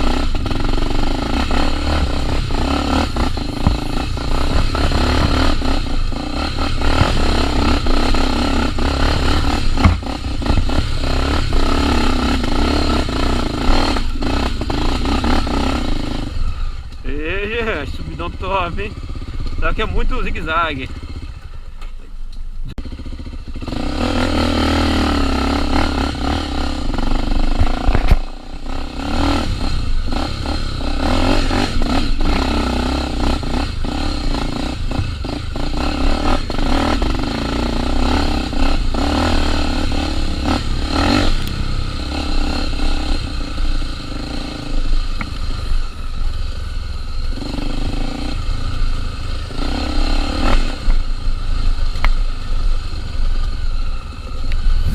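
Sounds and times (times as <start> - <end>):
knocks and rattles from bike: 0.0 - 17.1, 18.9 - 20.2, 20.9 - 46.3, 47.2 - 54.9
motorcycle engine revving: 0.0 - 54.9.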